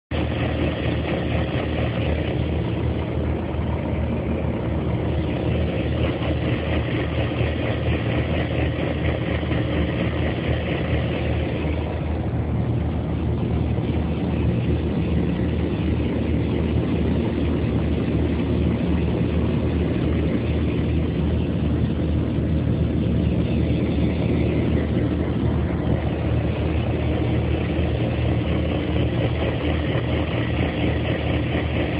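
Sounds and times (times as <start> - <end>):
industrial agitator drone: 0.1 - 31.9
low hum: 0.1 - 31.9.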